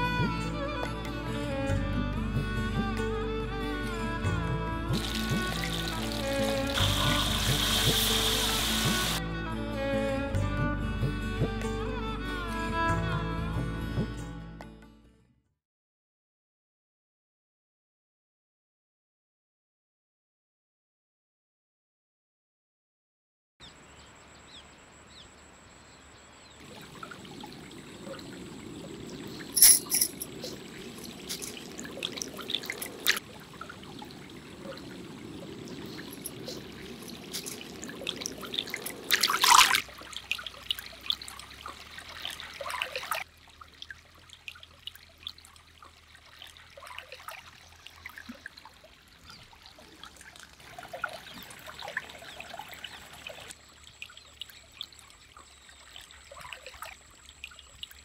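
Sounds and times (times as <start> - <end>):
water trickling in a stream: 0.0 - 13.2, 23.7 - 58.0.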